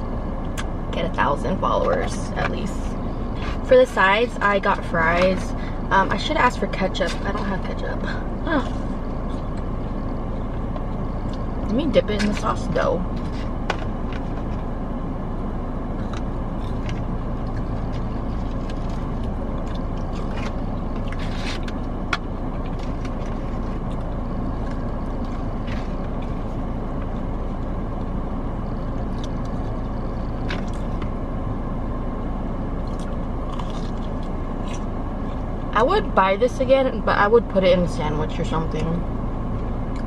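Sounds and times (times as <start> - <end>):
car air conditioning and engine hum: 0.0 - 40.0.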